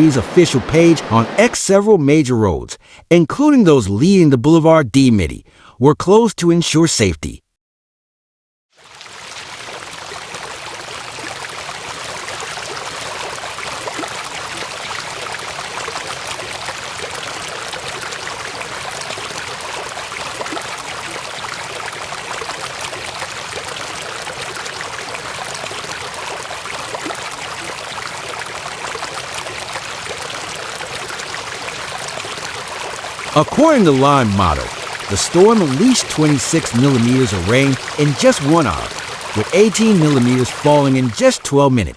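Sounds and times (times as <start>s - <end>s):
rushing floodwater: 0.0s - 1.8s, 8.8s - 41.9s.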